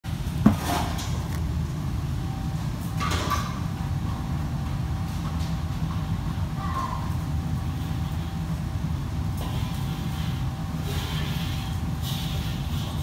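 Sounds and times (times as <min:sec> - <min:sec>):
ventilation fan rumble: 0:00.0 - 0:13.0.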